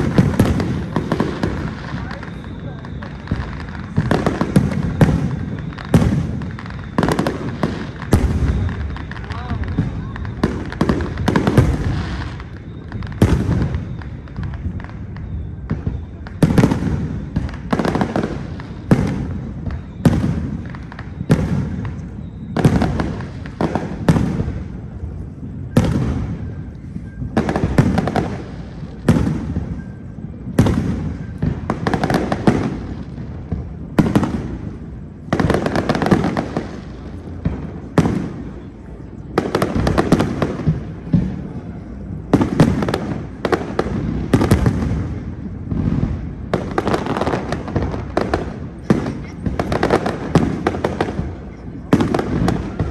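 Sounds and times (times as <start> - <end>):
fireworks bursting with echoes: 0.0 - 52.9.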